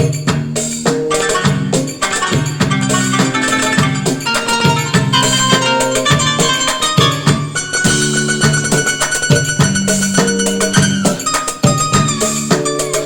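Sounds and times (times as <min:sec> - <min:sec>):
drum and chord accompaniment: 0:00.0 - 0:13.0
electronic keyboard melody: 0:00.8 - 0:13.0.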